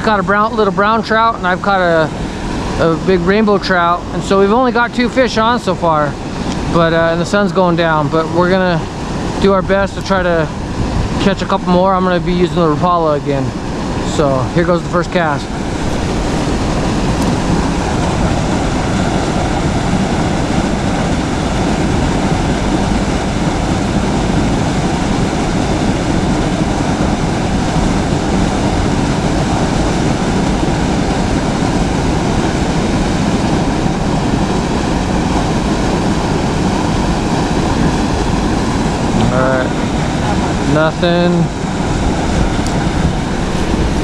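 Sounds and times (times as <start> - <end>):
flowing river water: 0.0 - 44.0.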